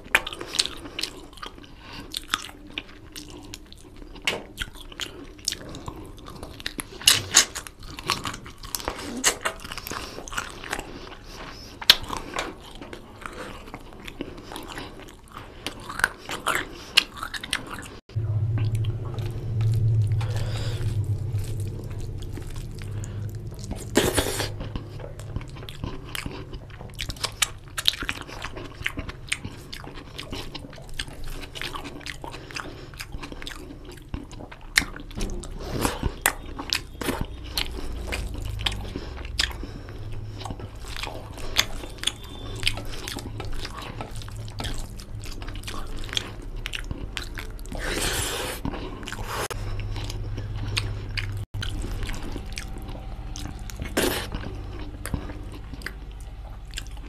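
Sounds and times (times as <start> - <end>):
close chewing with wet smacks: 0.0 - 57.0.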